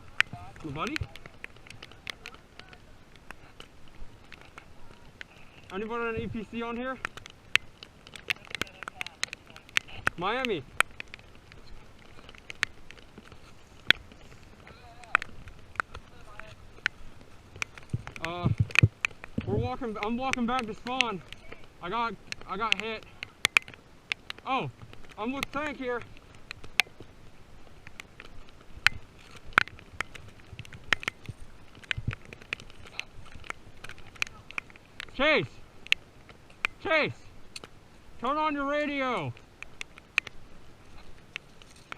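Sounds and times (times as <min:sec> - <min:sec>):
sharp cracks: 0:00.0 - 0:41.9.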